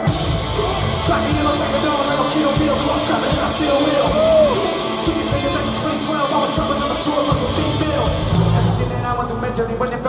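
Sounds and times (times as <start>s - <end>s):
steady drum beat: 0.0s - 9.5s
live rock band with singer: 0.0s - 10.0s.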